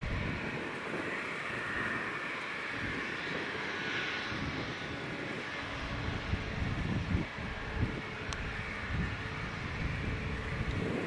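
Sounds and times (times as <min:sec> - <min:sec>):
jet engines taxiing: 0:00.0 - 0:11.0.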